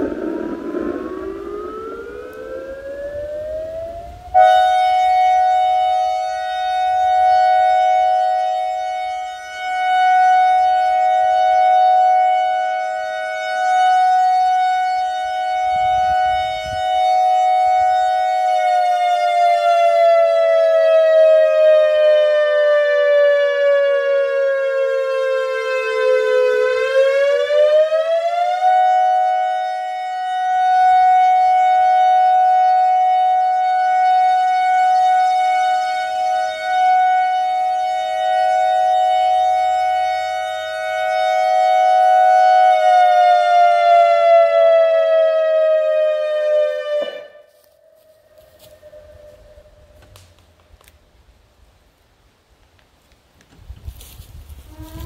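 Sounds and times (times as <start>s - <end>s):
electronic siren wailing: 0.0s - 50.4s, 54.6s - 55.0s.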